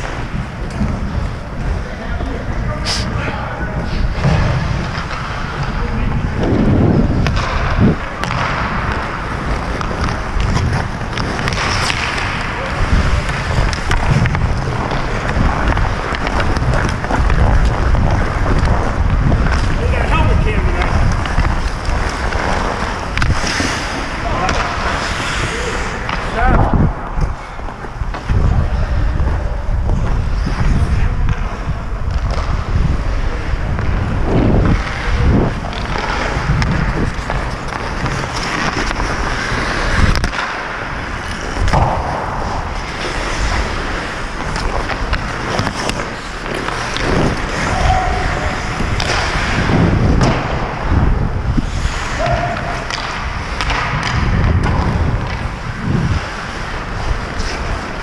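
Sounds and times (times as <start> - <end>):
wind rumble on microphone: 0.0 - 23.4, 25.4 - 40.2, 41.6 - 58.0
skate blades scraping ice: 0.0 - 58.0
hockey sticks and pucks knocking: 3.8 - 58.0.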